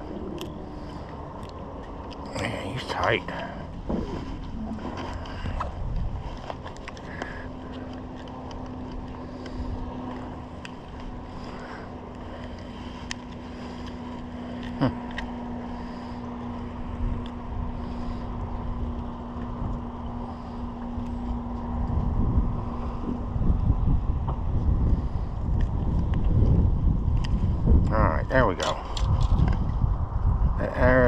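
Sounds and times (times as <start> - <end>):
boat motor hum: 0.0 - 31.0
wind rumble on microphone: 0.0 - 31.0.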